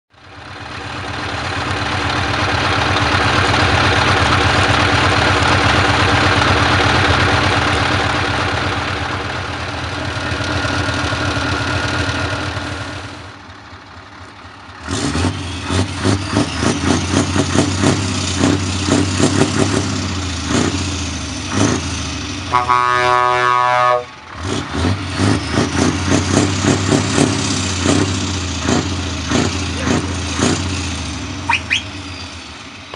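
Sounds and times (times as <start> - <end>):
diesel truck engine running: 0.1 - 32.9.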